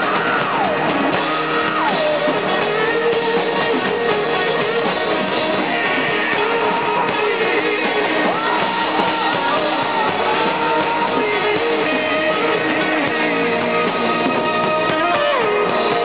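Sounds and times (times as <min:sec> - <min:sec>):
electric guitar sliding notes: 0:00.0 - 0:16.0
rock song: 0:00.0 - 0:16.0.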